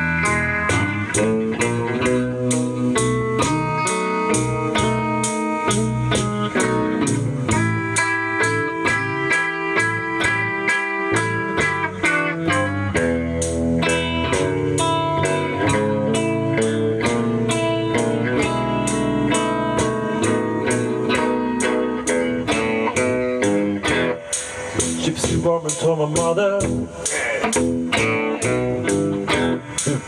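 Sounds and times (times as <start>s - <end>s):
blues guitars playing: 0.0s - 30.0s
regular beat: 0.0s - 30.0s.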